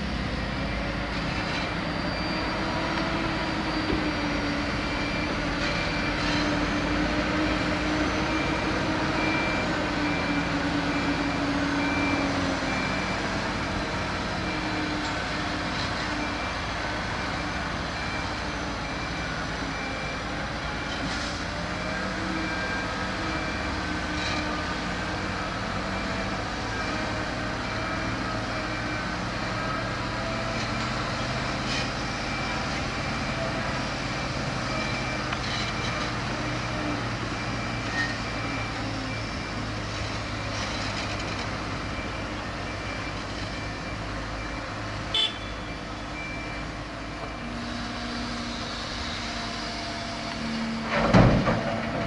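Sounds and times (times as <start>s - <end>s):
construction site noise: 0.0s - 52.0s
vehicle engines humming: 0.0s - 52.0s.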